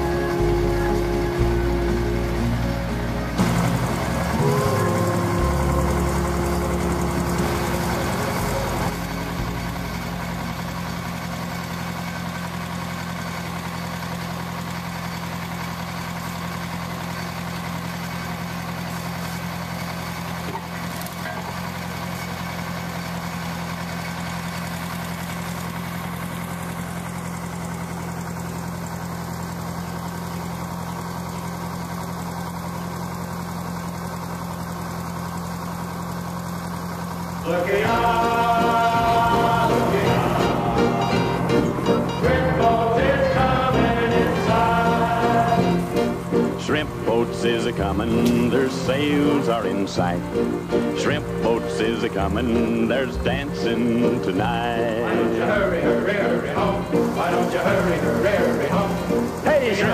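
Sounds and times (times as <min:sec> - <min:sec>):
winch engine idling: 0:00.0 - 0:59.9.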